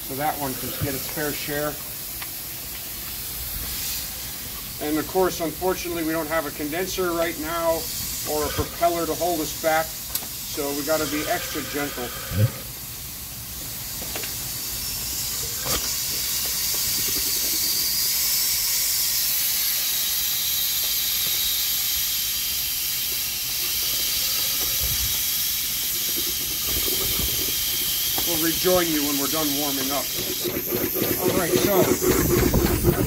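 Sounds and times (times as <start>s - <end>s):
steam hissing: 0.0s - 33.0s.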